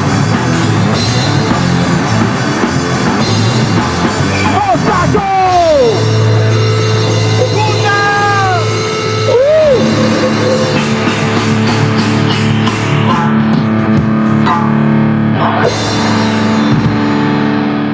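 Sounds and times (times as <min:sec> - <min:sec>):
electric guitar bending notes: 0:00.0 - 0:17.9
held bass notes: 0:00.0 - 0:17.9.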